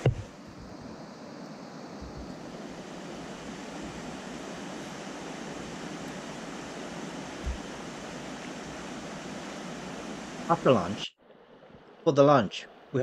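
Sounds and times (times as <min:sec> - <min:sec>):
stream running over stones: 0:00.0 - 0:12.3.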